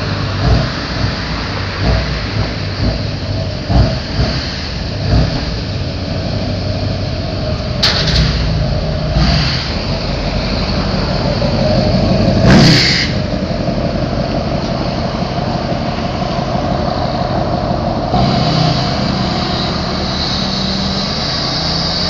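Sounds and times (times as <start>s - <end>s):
diesel pickup engine revving: 0.0s - 22.0s.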